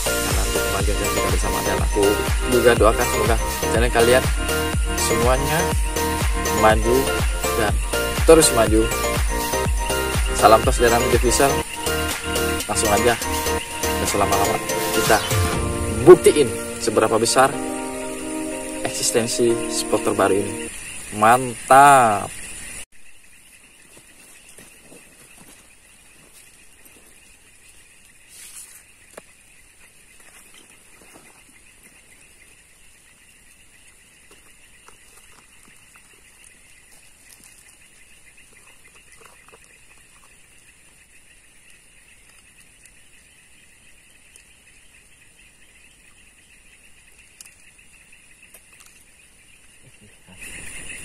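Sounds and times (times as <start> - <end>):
insects chorus: 0.0 - 51.0.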